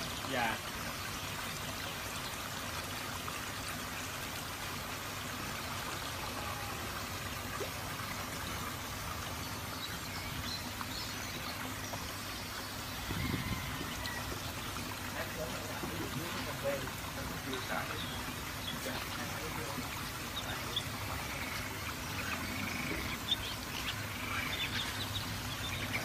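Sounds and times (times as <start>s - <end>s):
water rushing into pond: 0.0s - 26.0s.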